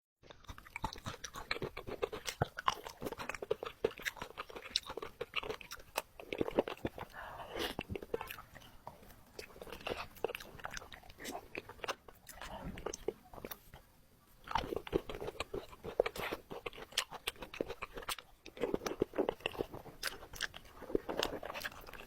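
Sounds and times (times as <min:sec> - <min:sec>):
chewing crunchy biscuits: 0:00.2 - 0:22.0.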